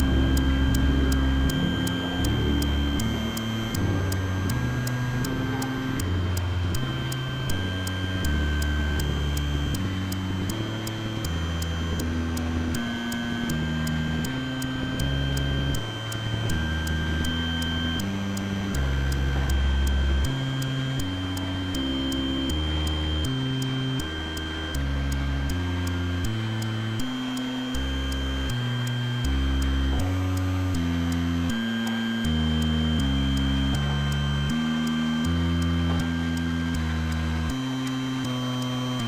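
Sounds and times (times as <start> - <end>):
electronic synthesizer music: 0.0 - 39.0.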